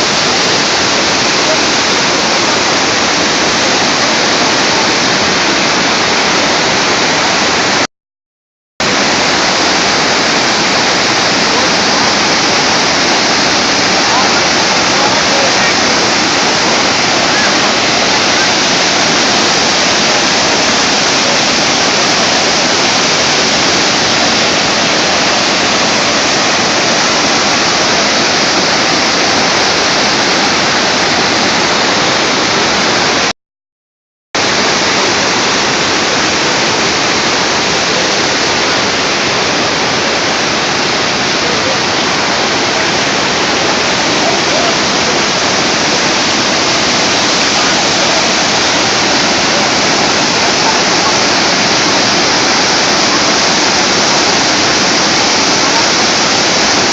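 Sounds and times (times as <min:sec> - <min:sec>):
waterfall crashing: 0:00.0 - 0:07.9, 0:08.8 - 0:33.3, 0:34.4 - 0:56.9.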